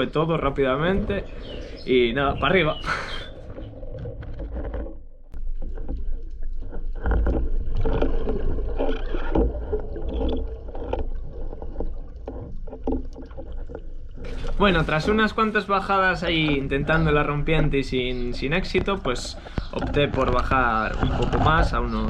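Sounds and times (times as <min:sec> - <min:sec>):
water rushing underwater: 0:00.0 - 0:22.0.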